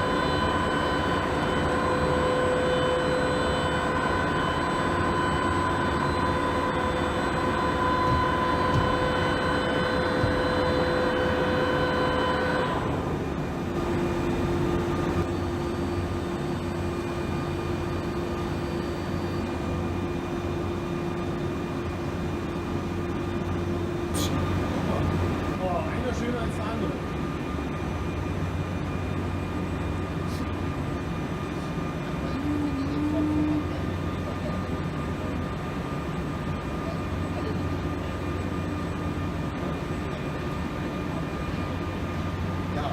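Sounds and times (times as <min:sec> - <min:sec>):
milling machine humming: 0:00.0 - 0:42.9.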